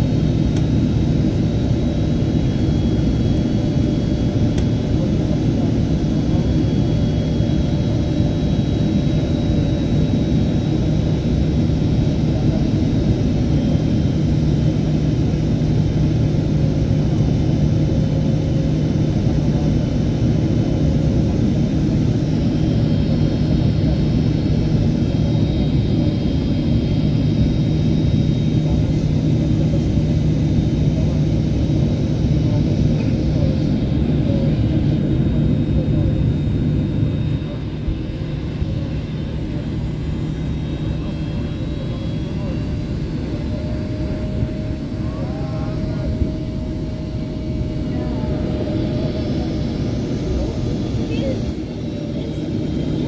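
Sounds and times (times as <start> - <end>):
airliner cabin engine rumble: 0.0 - 53.0.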